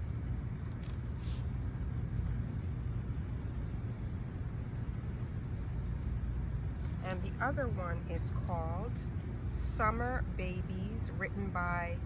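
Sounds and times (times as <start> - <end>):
constant low rumble: 0.0 - 12.0
crickets chirping: 0.0 - 12.0.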